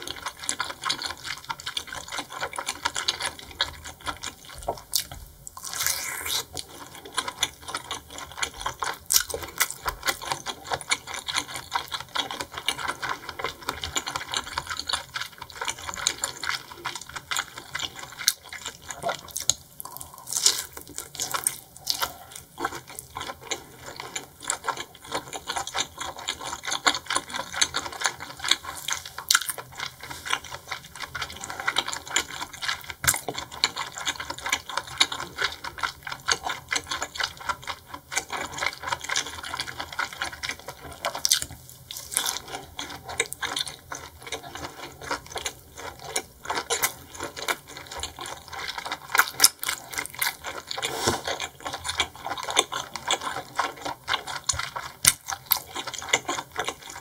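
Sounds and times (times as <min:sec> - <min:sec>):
close chewing and mouth sounds: 0:00.0 - 0:57.0.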